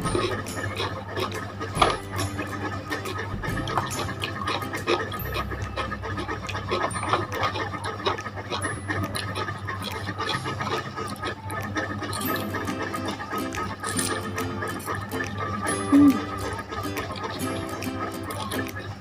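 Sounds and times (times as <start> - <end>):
noodles being chewed: 0.0 - 19.0
wet mouth clicks and smacks: 0.0 - 19.0.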